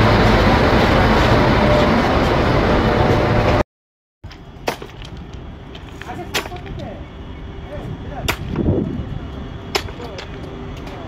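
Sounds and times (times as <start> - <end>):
electric locomotive humming: 0.0 - 3.6, 4.3 - 11.0
heavy train running: 0.0 - 3.6, 4.3 - 11.0.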